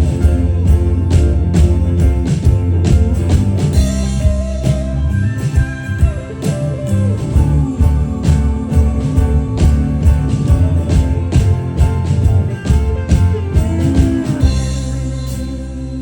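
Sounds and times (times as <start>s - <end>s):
bass: 0.0s - 16.0s
drums: 0.0s - 16.0s
guitar: 0.0s - 16.0s.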